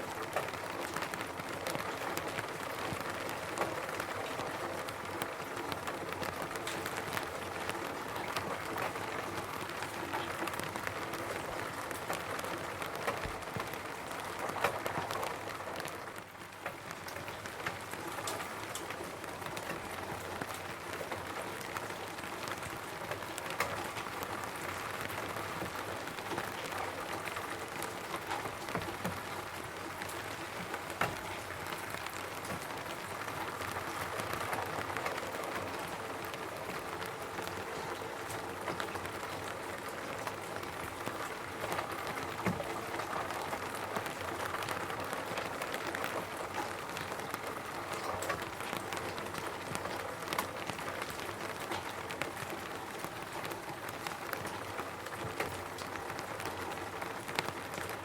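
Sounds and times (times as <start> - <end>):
rain pattering on a roof: 0.0 - 58.0.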